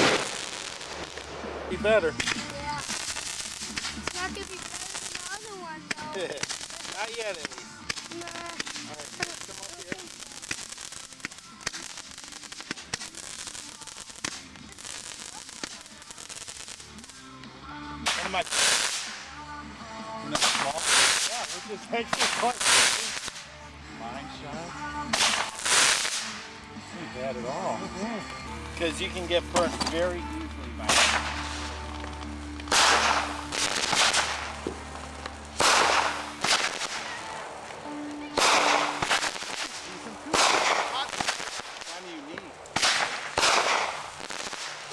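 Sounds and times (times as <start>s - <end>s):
fireworks crackling and popping: 0.0s - 44.9s.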